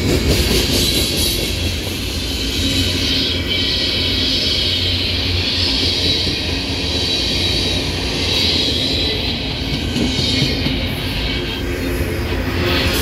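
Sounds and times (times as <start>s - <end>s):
freight train rolling by: 0.0s - 13.0s.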